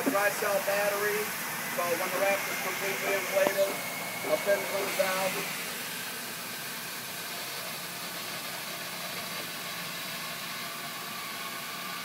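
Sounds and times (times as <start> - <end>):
gas hissing from relief valves: 0.0 - 12.0.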